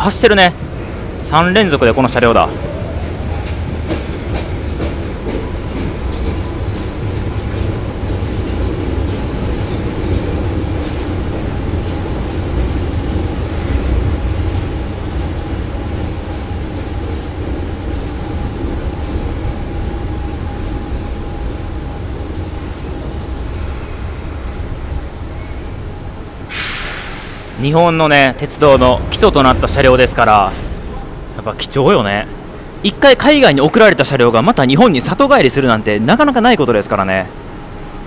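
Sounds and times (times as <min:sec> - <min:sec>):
subway car wheels and motors rumbling: 0:00.0 - 0:38.0.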